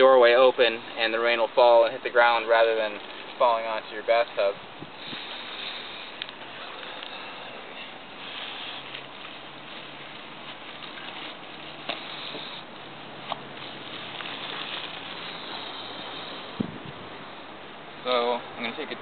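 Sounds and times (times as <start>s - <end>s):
tent fabric rustling: 0.0s - 18.9s
steady hiss: 0.0s - 19.0s.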